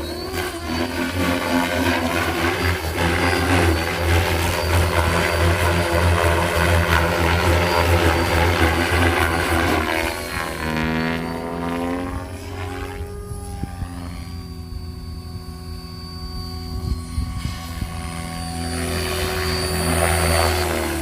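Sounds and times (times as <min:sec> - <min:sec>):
high motor whine: 0:00.0 - 0:21.0
rc helicopter rotor buzz: 0:00.0 - 0:21.0.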